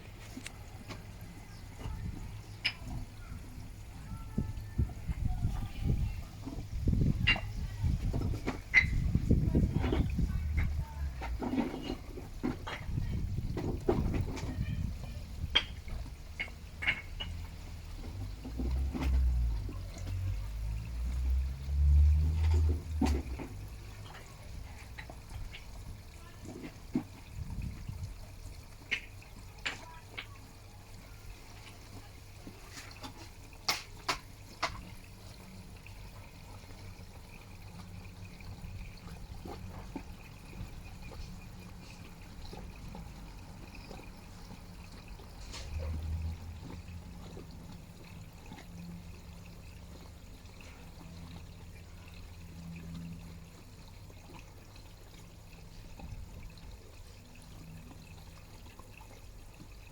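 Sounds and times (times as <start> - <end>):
water trickling into a pond: 0.0 - 59.9.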